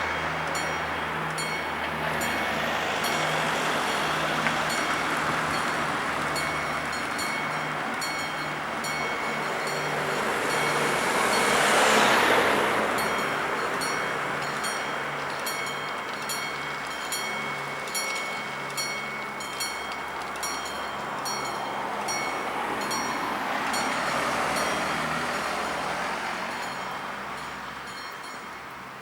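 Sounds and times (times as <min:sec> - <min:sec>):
level-crossing bell ringing: 0:00.0 - 0:28.8
electric train passing: 0:00.0 - 0:29.0.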